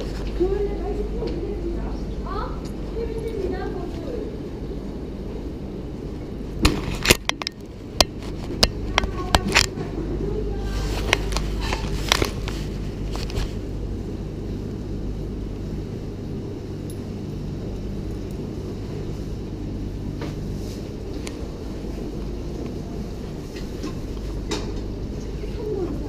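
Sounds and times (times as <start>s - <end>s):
low electrical machine hum: 0.0s - 26.0s.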